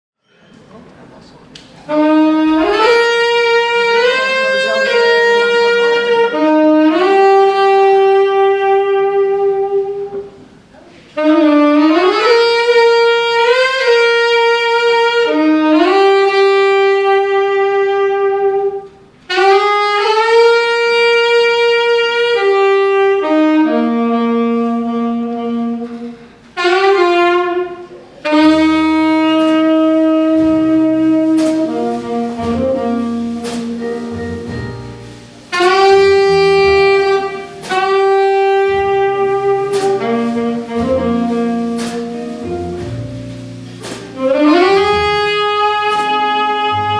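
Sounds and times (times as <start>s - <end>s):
tenor saxophone jazz ballad: 1.8s - 46.9s
double bass: 1.9s - 46.9s.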